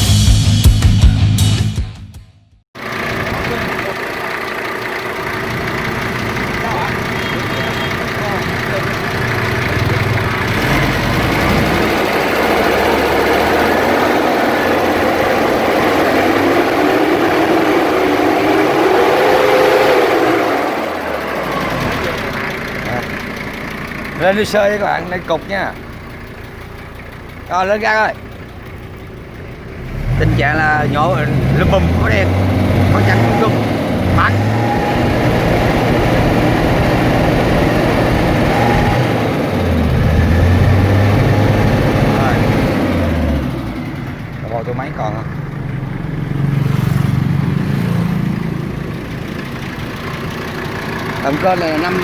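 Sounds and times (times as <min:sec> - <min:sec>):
diesel engine running: 0:02.7 - 0:52.0.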